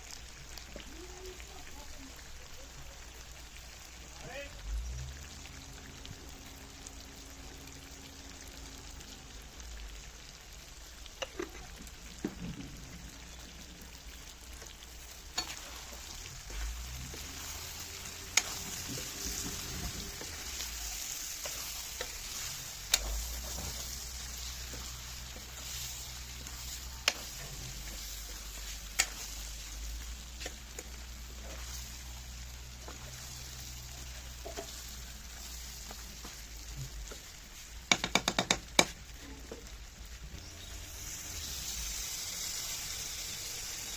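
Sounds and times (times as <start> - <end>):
curry sizzling in a pan: 0.0 - 43.9.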